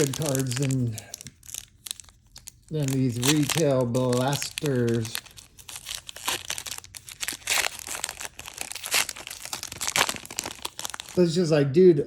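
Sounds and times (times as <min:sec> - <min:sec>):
wrappers crinkling and rustling: 0:00.0 - 0:11.4.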